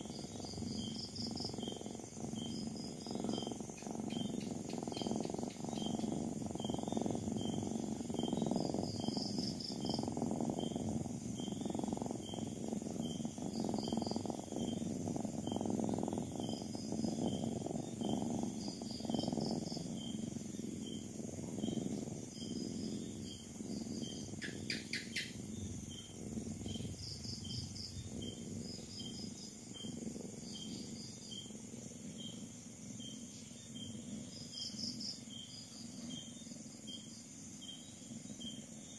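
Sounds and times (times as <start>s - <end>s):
cat purring: 0.0s - 37.0s, 37.6s - 38.8s
crickets chirping: 0.0s - 38.9s.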